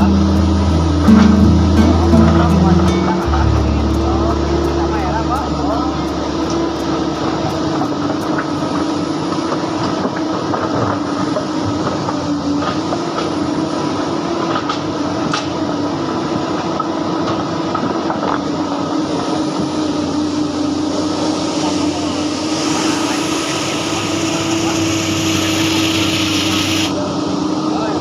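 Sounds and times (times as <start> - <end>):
excavator engine droning: 0.0 - 28.0.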